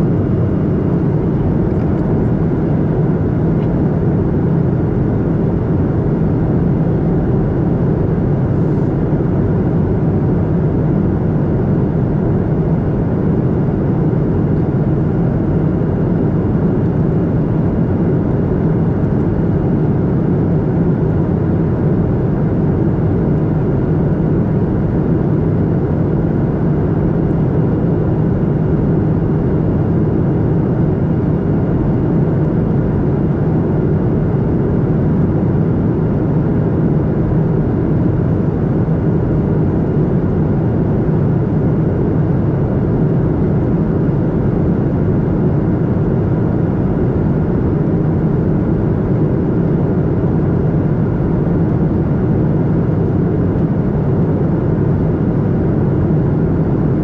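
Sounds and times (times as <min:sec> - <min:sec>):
jet engine drone: 0:00.0 - 0:57.0.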